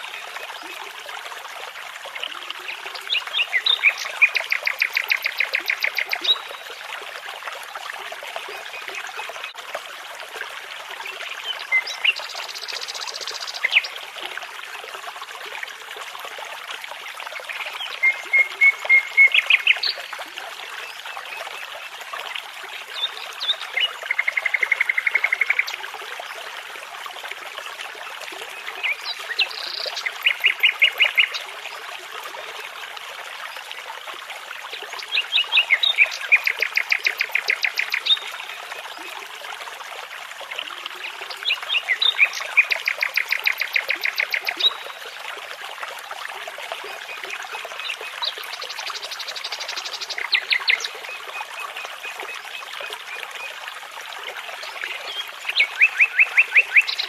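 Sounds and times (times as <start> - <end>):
babbling brook: 0.0 - 57.0.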